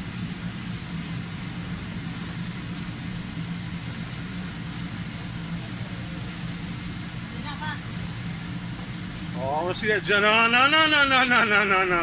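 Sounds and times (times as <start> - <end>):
electric blower fan humming: 0.0 - 12.0.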